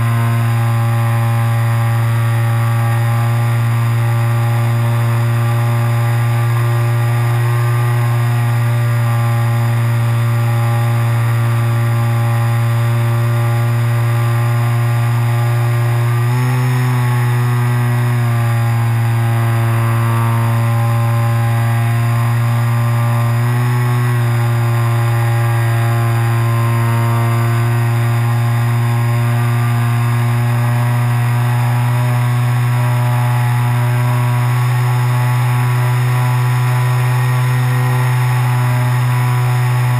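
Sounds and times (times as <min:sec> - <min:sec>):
electric motor and propeller hum: 0:00.0 - 0:39.9.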